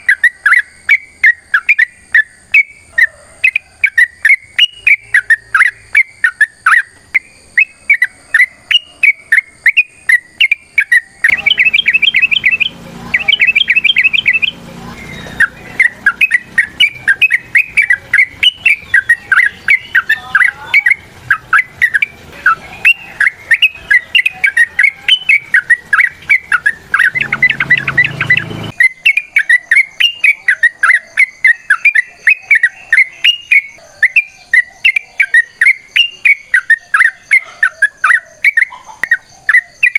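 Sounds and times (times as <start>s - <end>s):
bird chattering song with trills: 0.0s - 39.9s.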